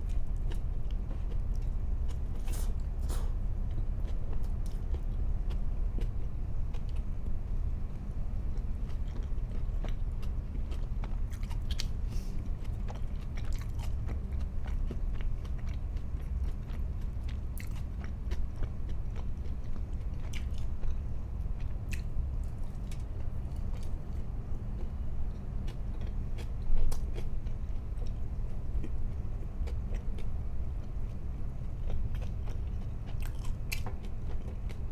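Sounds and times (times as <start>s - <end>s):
person chewing food: 0.0s - 7.4s, 8.5s - 34.9s
steady low hum: 0.0s - 34.9s.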